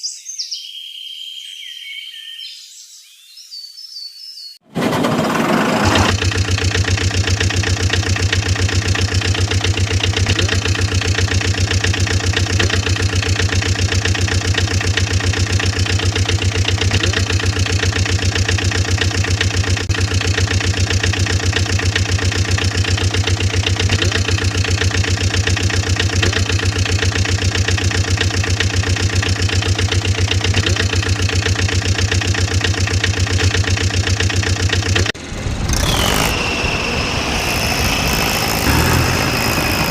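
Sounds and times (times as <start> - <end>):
engine idling: 4.8 - 39.9.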